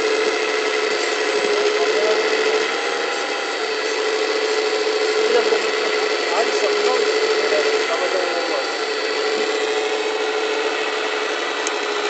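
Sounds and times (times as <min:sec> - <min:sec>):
hydraulic pump mechanical whine: 0:00.0 - 0:12.0.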